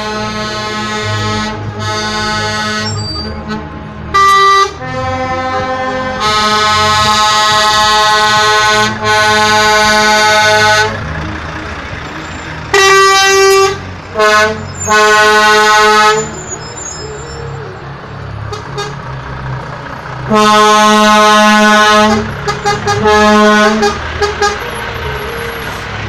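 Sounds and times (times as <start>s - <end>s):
truck air horn blasts: 0.0s - 11.0s, 12.7s - 17.4s, 18.5s - 19.0s, 20.3s - 25.4s
diesel truck engines running: 0.0s - 26.0s.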